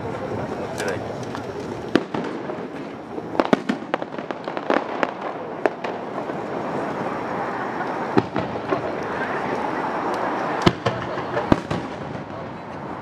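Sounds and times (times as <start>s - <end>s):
steady background noise: 0.0s - 13.0s
fireworks bursting with bangs: 1.3s - 13.0s.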